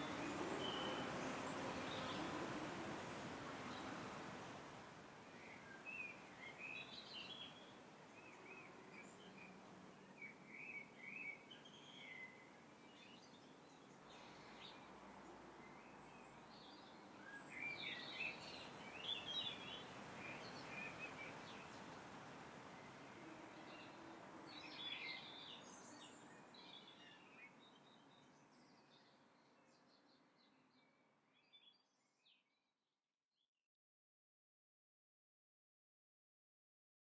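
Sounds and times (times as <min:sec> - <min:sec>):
faint outdoor background noise: 0:00.0 - 0:32.6.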